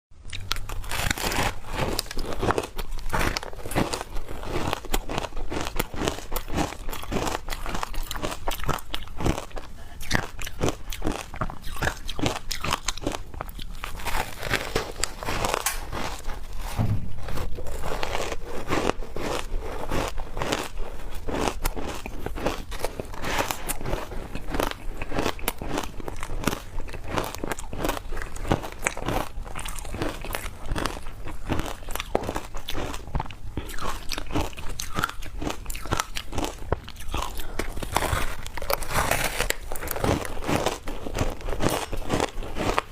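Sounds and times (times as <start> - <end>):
chewing crunchy ice: 0.2 - 42.9.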